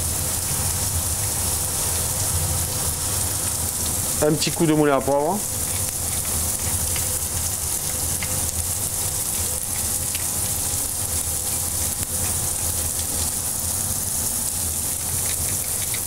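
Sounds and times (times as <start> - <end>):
carrots sizzling in oil: 0.0 - 16.0.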